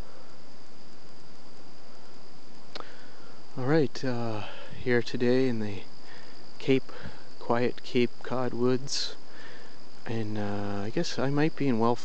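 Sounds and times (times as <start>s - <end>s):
background hiss: 0.0s - 12.0s
insect chorus buzzing: 0.0s - 12.0s.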